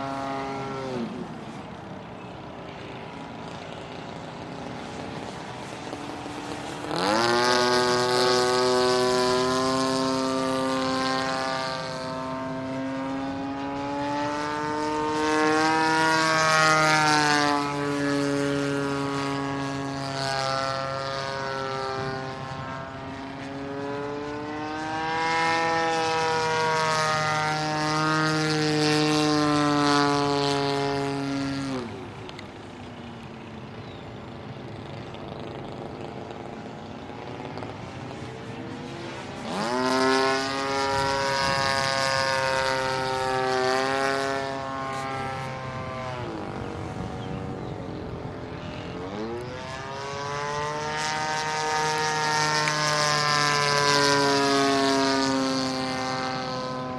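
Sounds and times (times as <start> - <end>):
model plane engine and propeller: 0.0 - 56.9.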